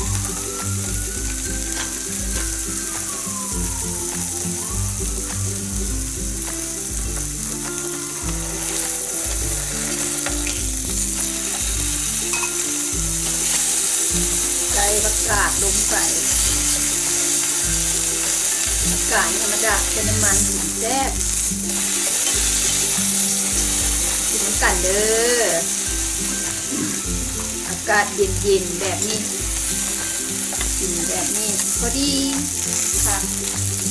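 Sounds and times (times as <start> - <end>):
background music: 0.0 - 33.9
meat sizzling on a grill: 0.0 - 33.9.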